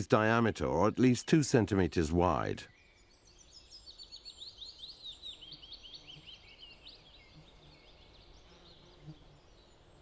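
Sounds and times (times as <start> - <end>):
birds chirping and trilling: 0.0 - 10.0
faint outdoor background noise: 0.0 - 10.0.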